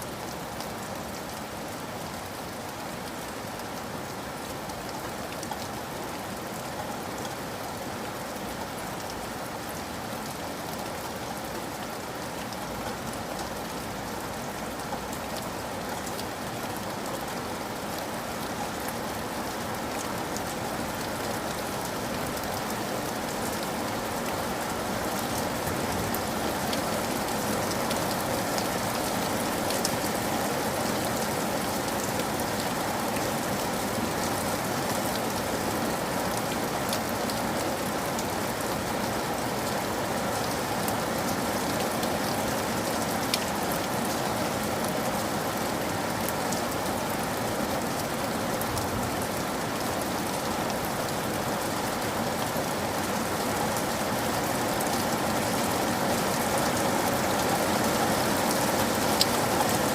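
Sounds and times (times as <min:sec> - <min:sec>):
steady rain with drops ticking: 0:00.0 - 0:59.9.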